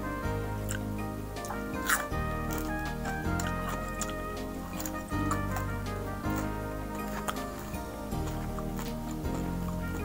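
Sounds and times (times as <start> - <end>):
background music chords: 0.0 - 10.0.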